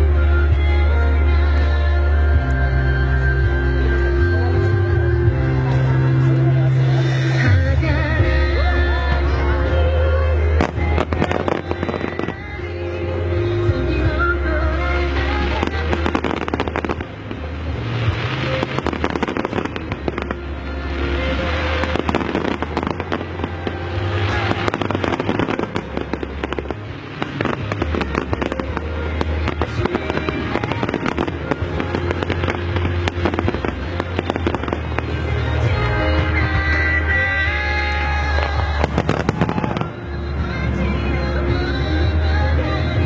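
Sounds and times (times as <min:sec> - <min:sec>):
music playing: 0:00.0 - 0:43.0
fireworks bursting and crackling: 0:05.6 - 0:43.0.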